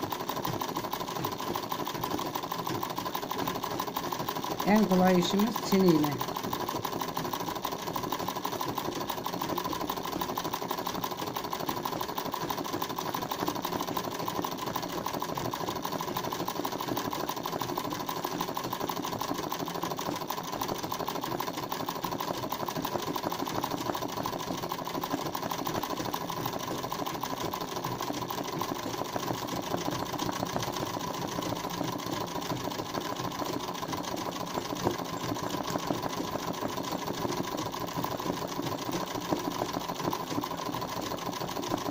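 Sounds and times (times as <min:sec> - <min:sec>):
sewing machine running: 0:00.0 - 0:41.9.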